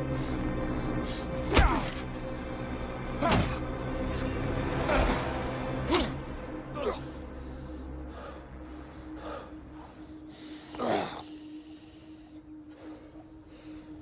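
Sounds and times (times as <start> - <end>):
faint low drone: 0.0 - 14.0
men breathing hard and grunting: 0.0 - 14.0.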